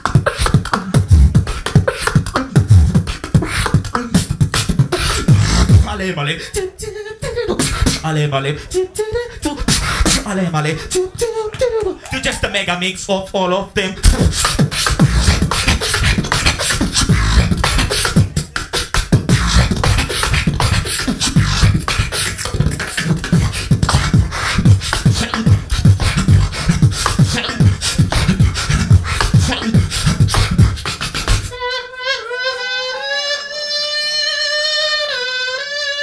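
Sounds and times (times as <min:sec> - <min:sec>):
beatboxing into a microphone: 0:00.0 - 0:36.0.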